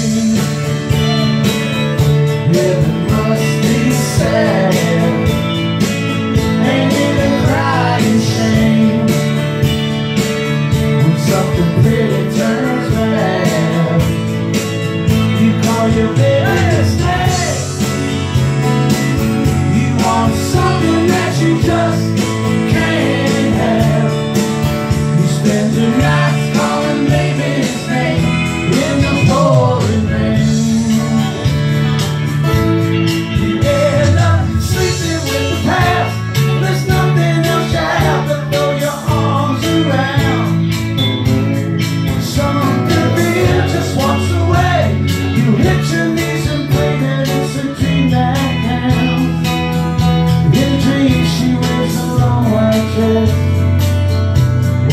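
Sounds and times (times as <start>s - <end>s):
acoustic guitars strumming: 0.0s - 54.9s
bending lead guitar melody: 0.0s - 54.9s.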